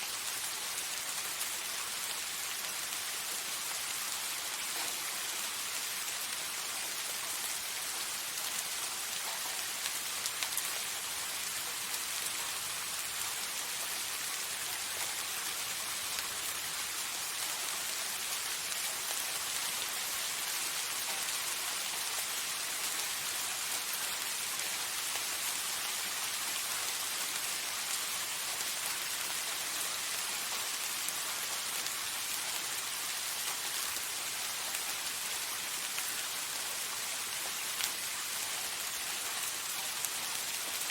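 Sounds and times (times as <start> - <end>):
soft rain falling: 0.0 - 40.9.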